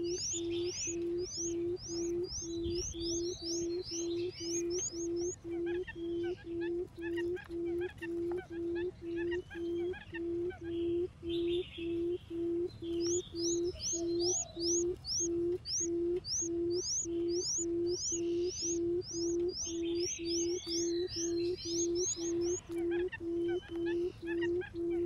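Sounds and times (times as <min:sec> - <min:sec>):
buttonquail booming hoots: 0:00.0 - 0:25.0
small birds chirping: 0:00.0 - 0:25.0.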